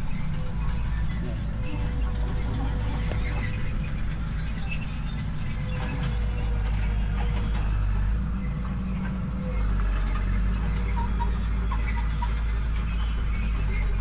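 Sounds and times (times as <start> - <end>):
large engine droning: 0.0 - 14.0.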